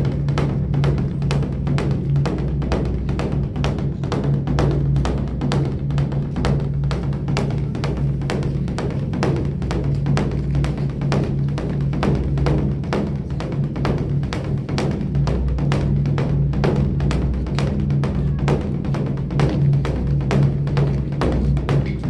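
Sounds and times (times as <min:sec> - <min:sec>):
deep boom: 0:00.0 - 0:22.0
large drum beaten fast: 0:00.0 - 0:22.0.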